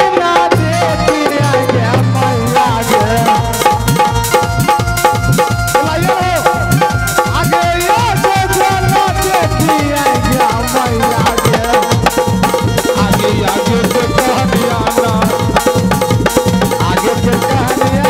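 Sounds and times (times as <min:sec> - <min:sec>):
steady drum beat: 0:00.0 - 0:18.0
dance music melody: 0:00.9 - 0:18.0.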